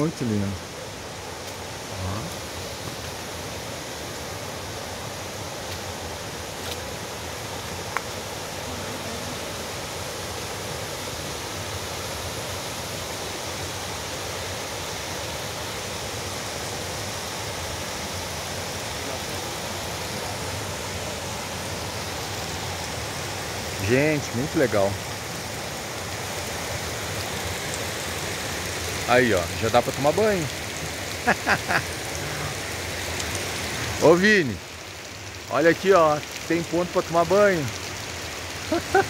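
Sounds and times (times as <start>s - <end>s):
waterfall pouring: 0.0s - 39.0s.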